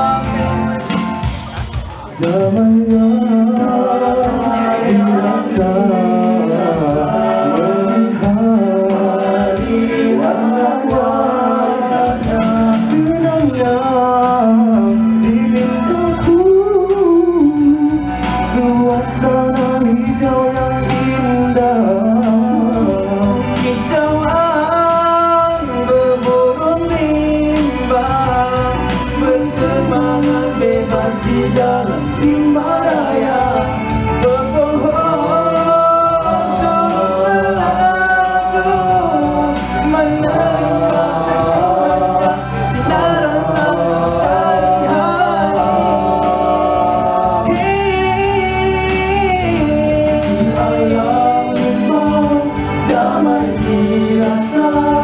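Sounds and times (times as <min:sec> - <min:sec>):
vocal group singing harmony: 0:00.0 - 0:55.0.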